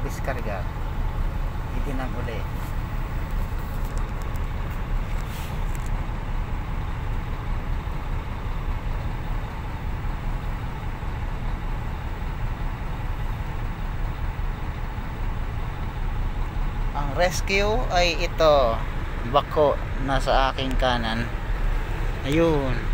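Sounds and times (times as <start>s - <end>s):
diesel truck engine idling: 0.0s - 22.9s.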